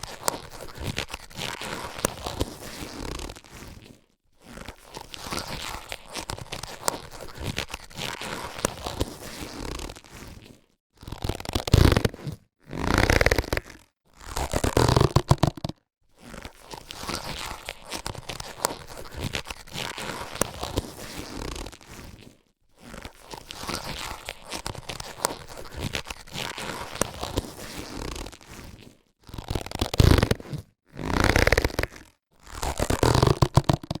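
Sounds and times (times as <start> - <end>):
latex gloves crinkling: 0.0 - 34.0.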